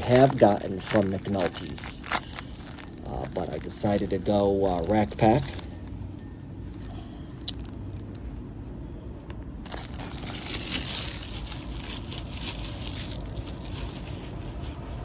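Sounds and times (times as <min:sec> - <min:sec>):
plastic wrapper crinkling and tearing: 0:00.0 - 0:05.9, 0:07.4 - 0:08.4, 0:09.3 - 0:15.0.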